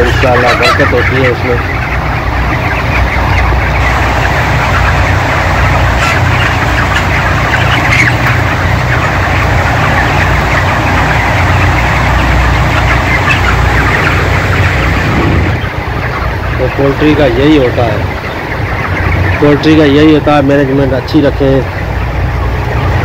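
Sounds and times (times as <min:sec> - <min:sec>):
flock of chickens chattering: 0:00.0 - 0:23.0
ventilation fans droning: 0:00.0 - 0:23.0.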